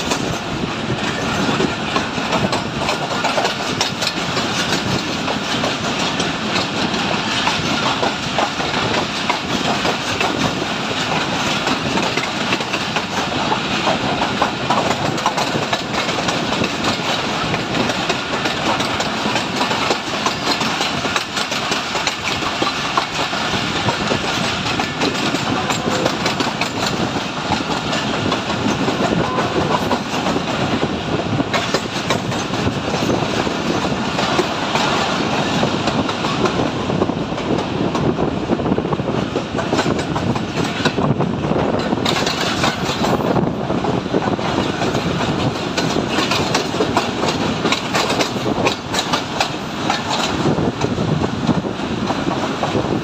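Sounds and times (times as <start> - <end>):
wheels clattering over rails: 0.0 - 36.7, 39.4 - 51.0
railcar running noise: 0.0 - 53.0.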